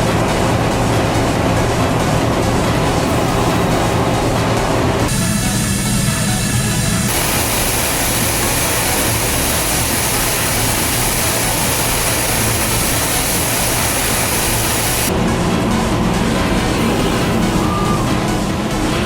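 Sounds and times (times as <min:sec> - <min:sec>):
high machine whine: 0:00.0 - 0:19.0
machine cutting metal: 0:00.0 - 0:19.0.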